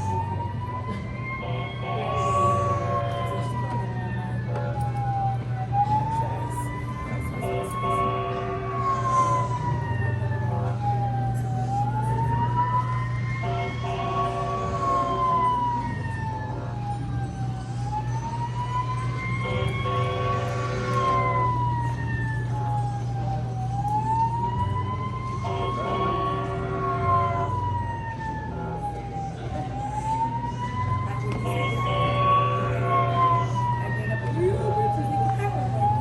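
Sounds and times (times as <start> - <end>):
electronic fire engine siren: 0.0 - 36.0
steady low hum: 0.0 - 36.0.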